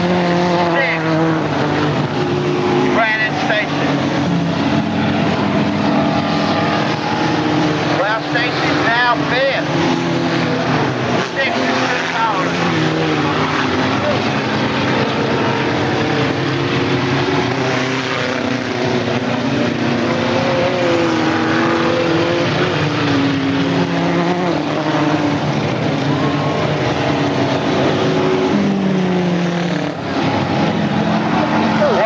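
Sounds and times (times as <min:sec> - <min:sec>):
race car engines: 0:00.0 - 0:32.0.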